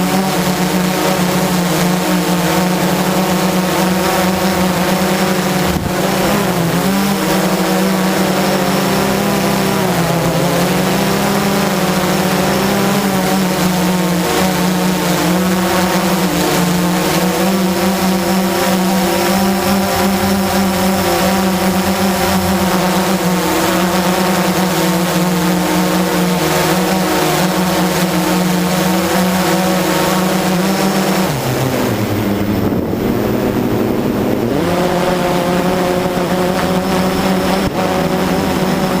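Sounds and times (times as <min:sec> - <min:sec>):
quadcopter motors whining: 0:00.0 - 0:39.0.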